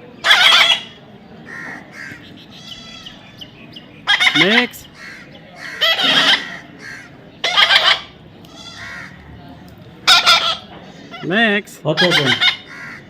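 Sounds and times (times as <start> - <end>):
parrot squawking: 0.2 - 9.2, 10.0 - 11.3, 12.0 - 13.0.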